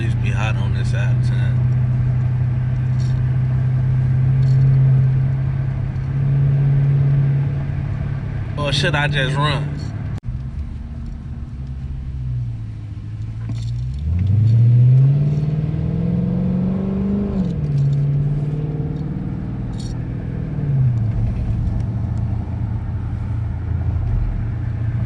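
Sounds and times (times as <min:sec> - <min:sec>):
car engine accelerating hard: 0:00.0 - 0:25.0.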